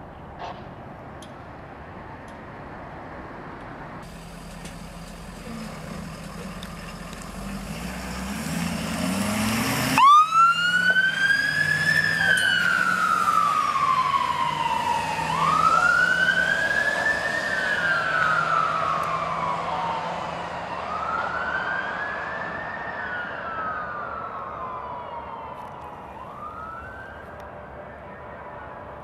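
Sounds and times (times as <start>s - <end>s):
fire truck siren wailing: 4.2s - 29.0s.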